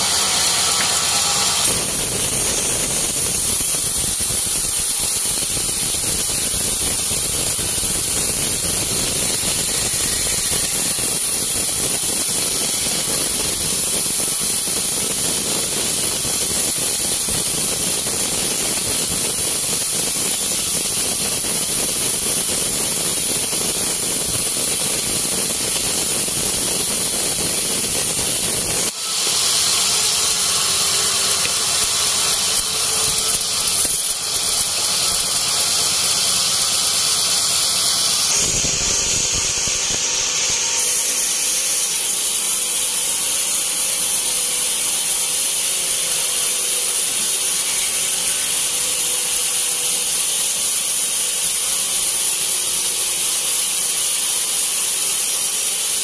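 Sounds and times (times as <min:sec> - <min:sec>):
band saw blade cutting wood: 0:00.0 - 0:56.0
sawmill machine running: 0:00.0 - 0:56.0.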